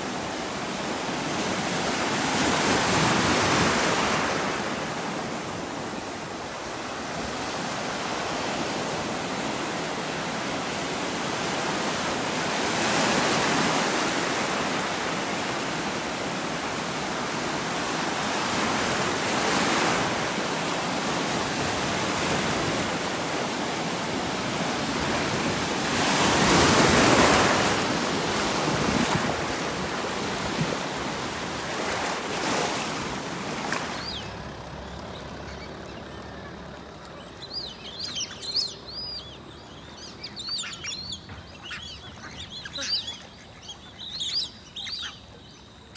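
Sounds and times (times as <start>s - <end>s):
ocean waves breaking: 0.0s - 45.9s.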